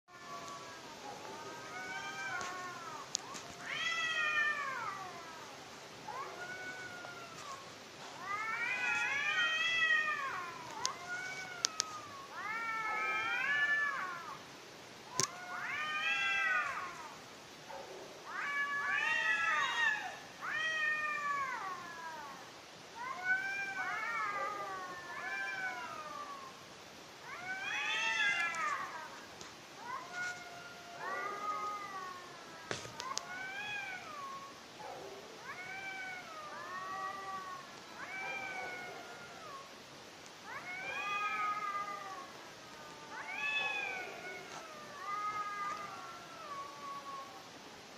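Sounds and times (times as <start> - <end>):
cats yowling: 0.1 - 14.4, 15.1 - 17.2, 18.2 - 39.8, 40.4 - 47.6.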